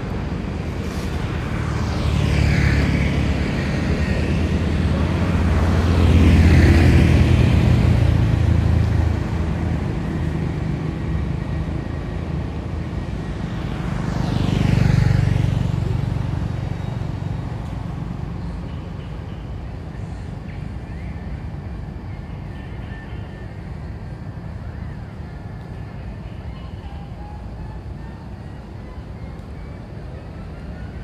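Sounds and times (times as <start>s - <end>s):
vehicles passing on road: 0.0s - 31.0s.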